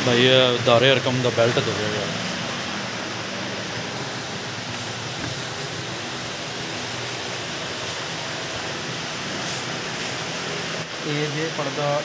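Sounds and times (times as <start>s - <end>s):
fans and air conditioning rushing: 0.0s - 12.0s.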